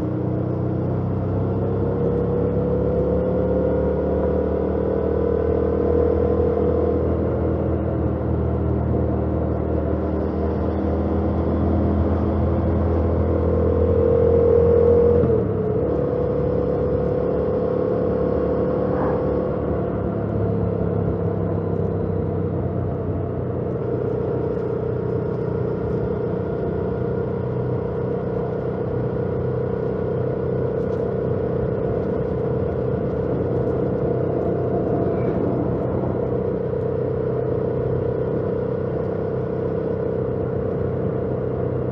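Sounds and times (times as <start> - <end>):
motorcycle engine while riding: 0.0 - 41.9
road and wind noise: 0.0 - 41.9.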